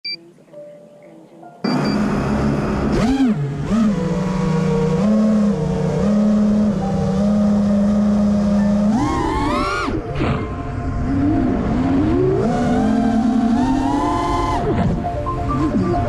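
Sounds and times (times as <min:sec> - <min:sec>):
quadcopter motors whining: 0:01.8 - 0:14.8.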